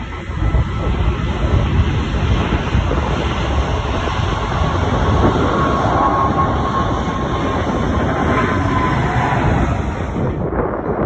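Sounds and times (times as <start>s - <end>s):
high whine: 0.0s - 11.0s
jet engines rumbling: 0.0s - 11.0s.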